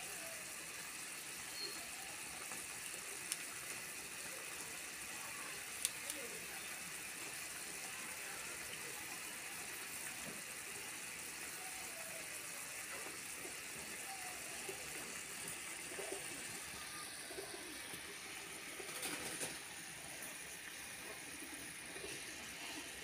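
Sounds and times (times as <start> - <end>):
gas burner hiss: 0.0 - 23.0
saucepan boiling and bubbling: 0.0 - 23.0.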